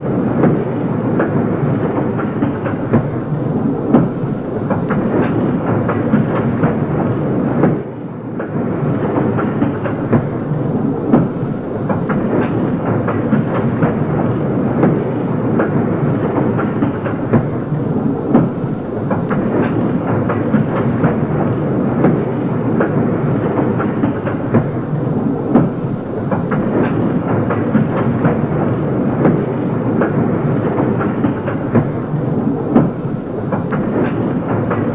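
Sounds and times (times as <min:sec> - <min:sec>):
train wheels clattering over rail joints: 0:00.1 - 0:34.9.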